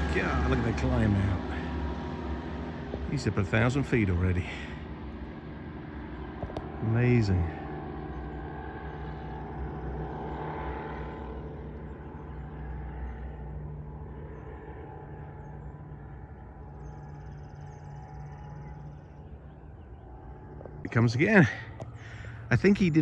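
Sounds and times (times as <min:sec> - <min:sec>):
distant light aircraft drone: 0:00.0 - 0:23.0.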